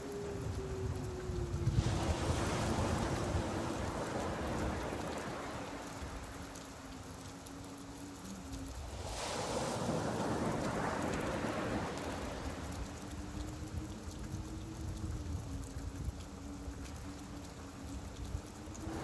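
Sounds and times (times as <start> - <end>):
rain falling on beach: 0.0 - 19.0
surf washing in: 0.0 - 19.0.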